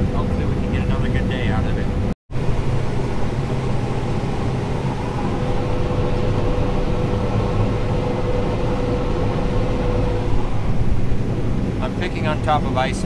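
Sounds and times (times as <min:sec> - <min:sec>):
combine harvester machinery drone: 0:00.0 - 0:13.0
thin machine whine: 0:00.0 - 0:13.0.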